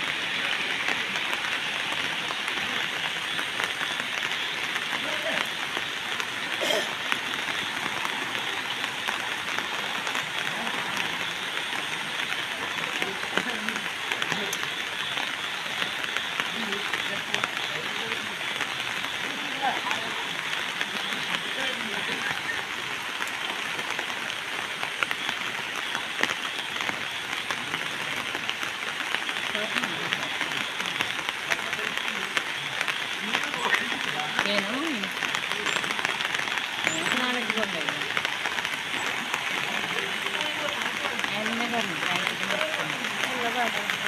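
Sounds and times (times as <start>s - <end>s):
heavy rain patter: 0.0s - 44.0s
people wading splashes: 0.0s - 44.0s.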